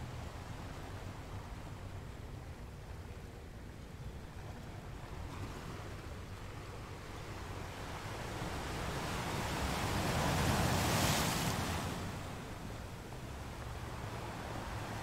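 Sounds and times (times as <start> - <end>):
ocean waves on beach: 0.0 - 15.0.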